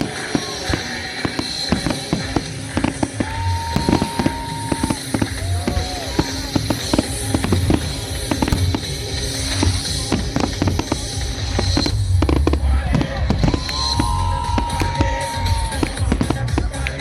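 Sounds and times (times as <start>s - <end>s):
whistling firework shell: 0.0s - 12.4s, 13.0s - 16.4s
firework bangs and crackles: 0.0s - 17.0s
music: 0.0s - 17.0s.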